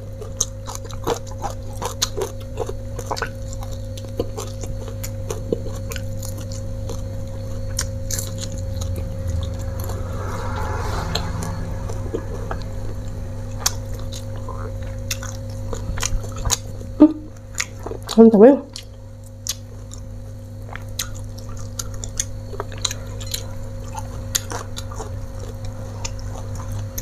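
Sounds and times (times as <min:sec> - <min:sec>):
person chewing and lip-smacking: 0:00.0 - 0:09.4, 0:13.6 - 0:27.0
steady low hum: 0:00.0 - 0:27.0.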